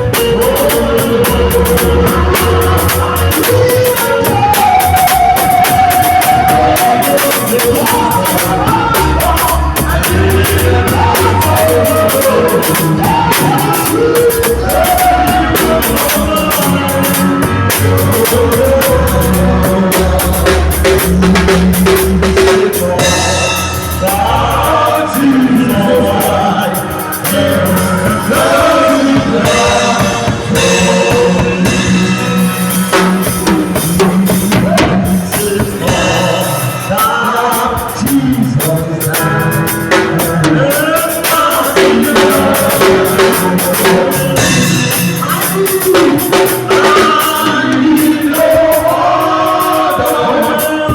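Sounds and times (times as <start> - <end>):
drum kit beat: 0.0 - 50.9
live band playing: 0.0 - 50.9.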